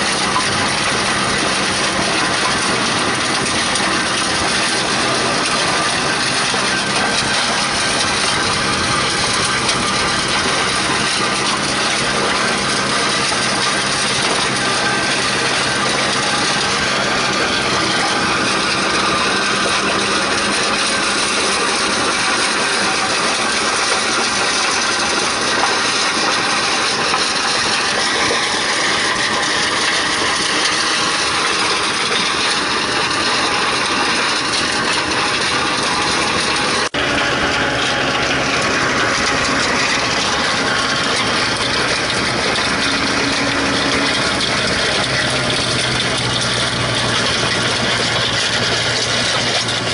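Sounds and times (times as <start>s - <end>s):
crusher grinding stones: 0.0s - 49.9s
tractor engine under load: 0.0s - 49.9s.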